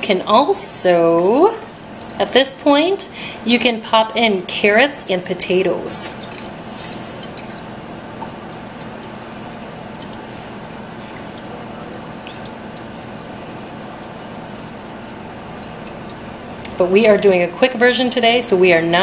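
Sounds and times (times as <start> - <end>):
steady low hum: 0.0 - 19.0
liquid sloshing and dripping: 0.3 - 19.0
broth stirred through strainer: 0.4 - 18.1.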